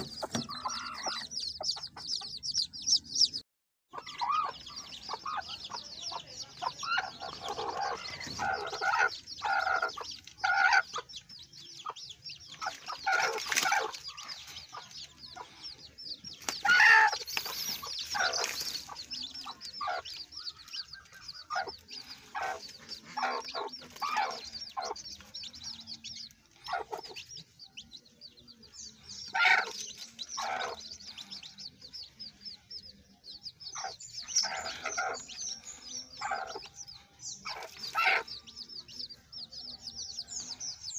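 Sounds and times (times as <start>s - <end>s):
chickens clucking: 0.0s - 40.9s
chicks peeping: 0.0s - 40.9s.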